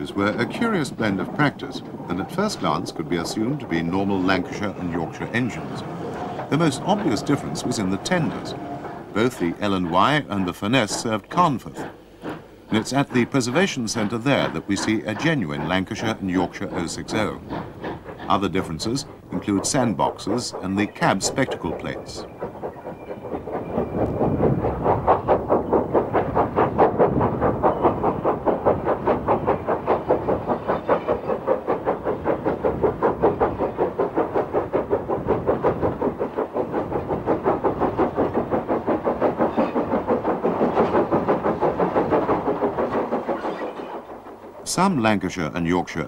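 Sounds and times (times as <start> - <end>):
steam locomotive chuffing: 0.0 - 46.0.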